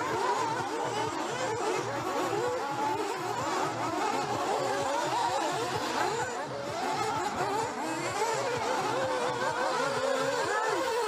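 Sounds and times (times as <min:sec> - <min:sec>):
rc buggy engines whining: 0:00.0 - 0:11.0.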